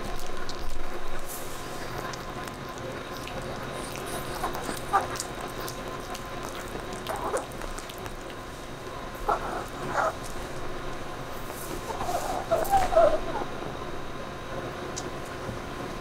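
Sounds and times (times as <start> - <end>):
dog gnawing on a bone: 0.0 - 13.4.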